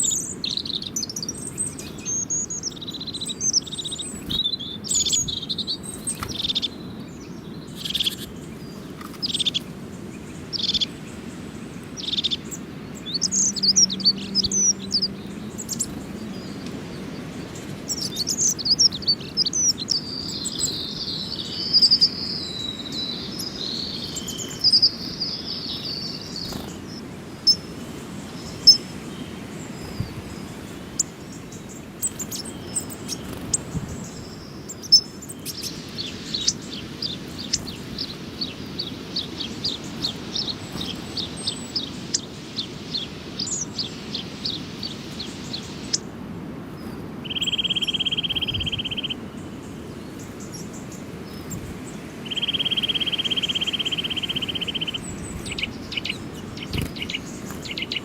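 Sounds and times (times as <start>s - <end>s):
small songbirds chirping and singing: 0.0s - 58.0s.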